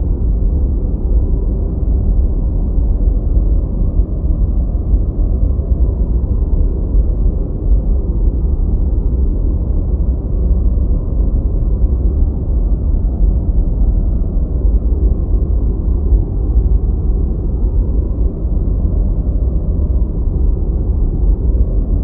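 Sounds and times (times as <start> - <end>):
deep white noise: 0.0 - 22.0.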